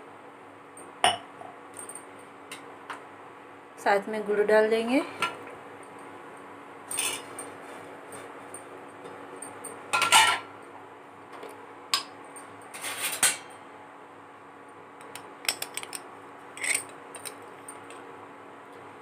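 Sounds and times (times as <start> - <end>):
cooktop low hum: 0.0 - 19.0.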